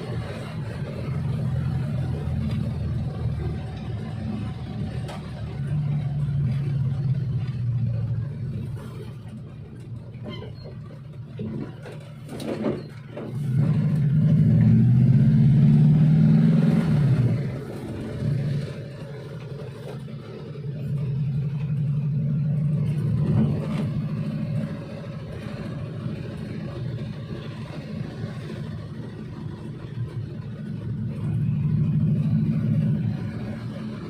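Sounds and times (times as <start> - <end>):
minivan engine revving: 0.0 - 34.0.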